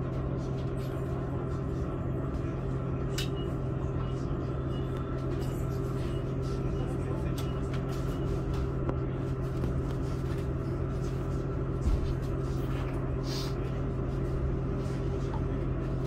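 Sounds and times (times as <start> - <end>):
train rumble and hum: 0.0 - 16.0.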